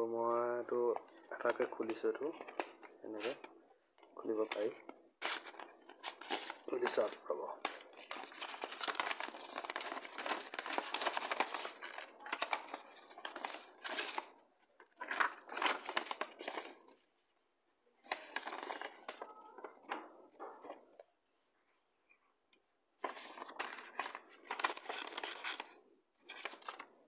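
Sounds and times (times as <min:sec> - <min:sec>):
plastic and paper crinkling: 0:00.8 - 0:03.5, 0:04.2 - 0:17.1, 0:18.0 - 0:20.8, 0:23.0 - 0:27.0.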